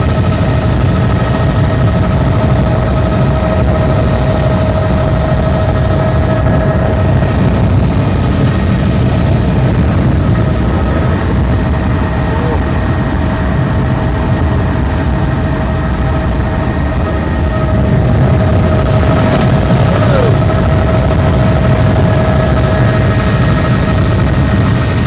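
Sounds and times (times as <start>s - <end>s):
helicopter rotor and engine drone: 0.0s - 25.0s
high-pitched whine: 0.0s - 25.0s.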